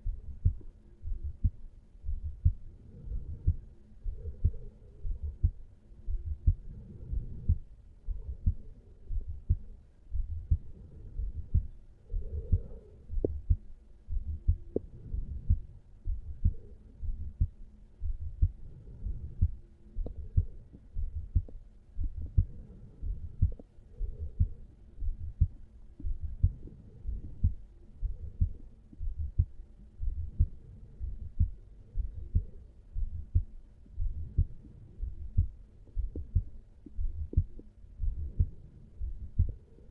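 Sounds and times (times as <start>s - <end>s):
heartbeat: 0.0s - 39.9s.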